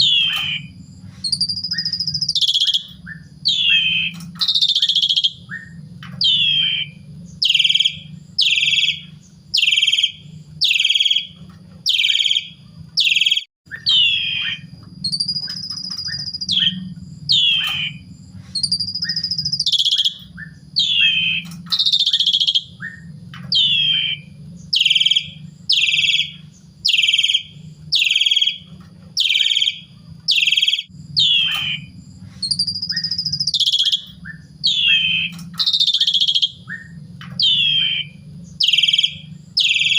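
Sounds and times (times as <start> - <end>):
low hum: 0.0 - 39.9
starling calling: 0.0 - 39.9.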